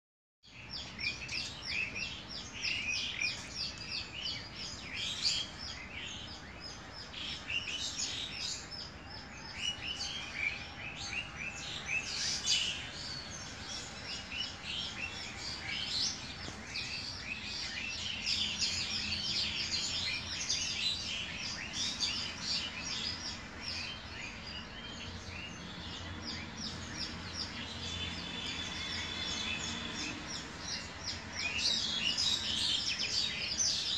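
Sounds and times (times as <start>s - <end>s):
small birds chirping: 0.4s - 33.9s.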